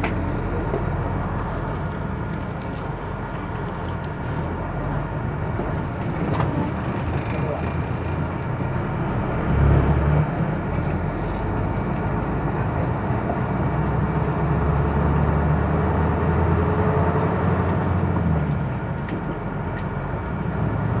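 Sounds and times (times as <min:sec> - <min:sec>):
low engine hum: 0:00.0 - 0:21.0
road noise rushing: 0:00.0 - 0:21.0.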